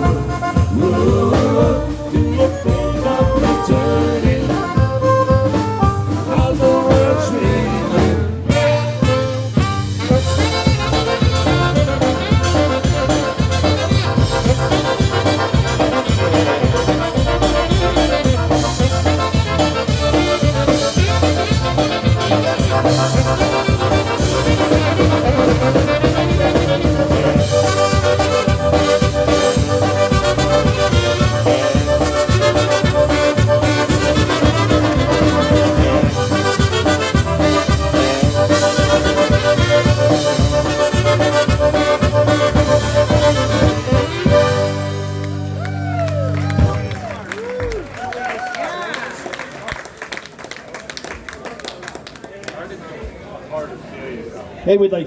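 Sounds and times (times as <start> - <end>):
accordion: 0.0 - 45.6
steady bass beat: 0.0 - 47.1.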